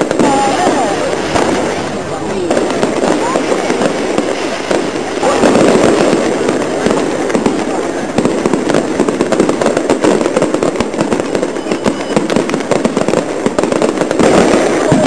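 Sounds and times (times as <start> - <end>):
fireworks crackling and popping: 0.0 - 15.0.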